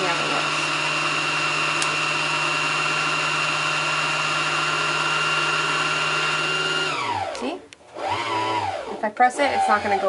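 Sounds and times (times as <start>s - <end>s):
sewing machine motor whining: 0.0s - 10.0s.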